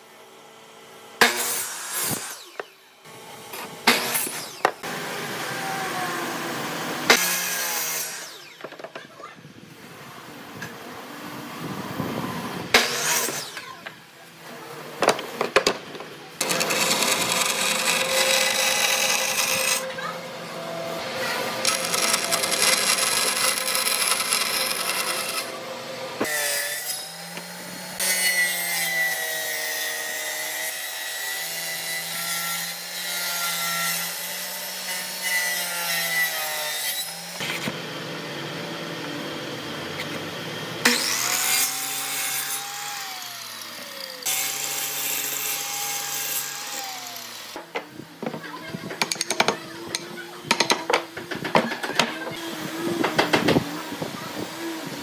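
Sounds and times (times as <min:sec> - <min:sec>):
power saws cutting wood: 0:00.3 - 0:09.1, 0:12.0 - 0:55.0.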